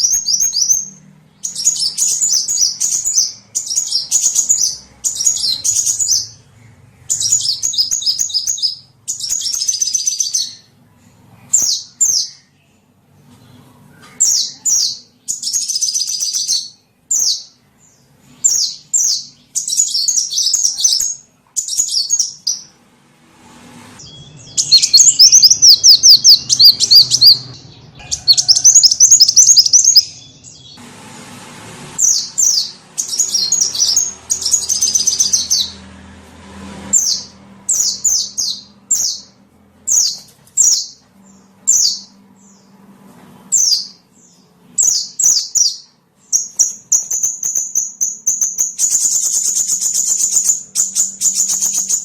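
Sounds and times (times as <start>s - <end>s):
high-pitched bird chirping trills: 0.0s - 22.8s, 24.0s - 30.8s, 32.0s - 35.9s, 36.9s - 42.8s, 43.5s - 52.0s.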